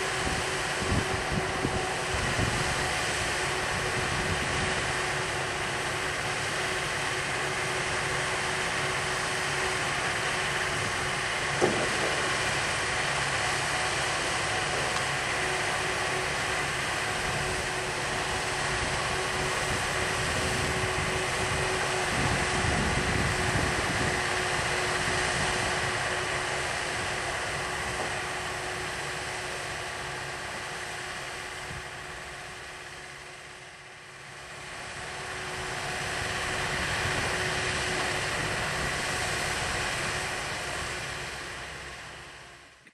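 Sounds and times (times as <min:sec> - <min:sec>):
diesel engine humming: 0:00.0 - 0:42.9.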